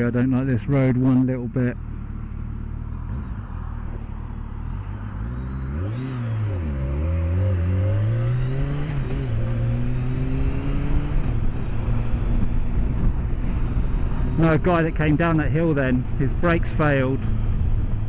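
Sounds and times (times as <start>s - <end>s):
motorcycle engine accelerating: 1.8s - 18.0s.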